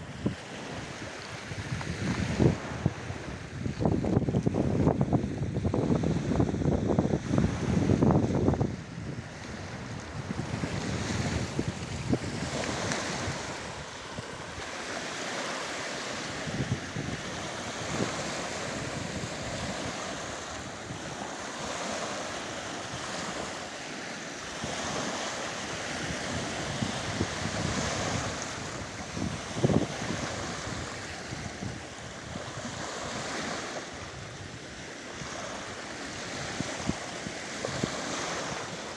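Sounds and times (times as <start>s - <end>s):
rushing wind: 0.0s - 38.9s
waves on water: 0.0s - 38.9s
wind buffeting microphone: 0.0s - 38.9s.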